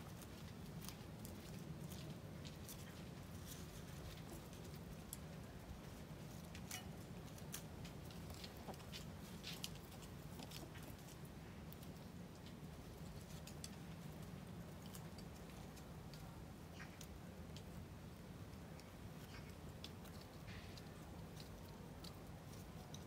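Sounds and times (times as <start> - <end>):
hens pecking at food: 0.0 - 23.0.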